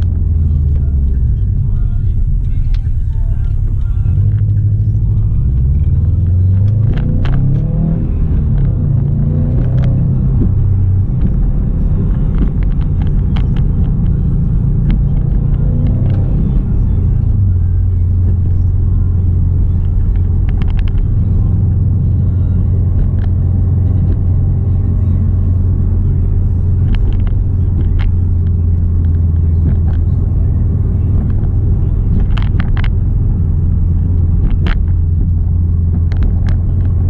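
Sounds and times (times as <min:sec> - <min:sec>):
car engine and exhaust rumble: 0:00.0 - 0:37.0.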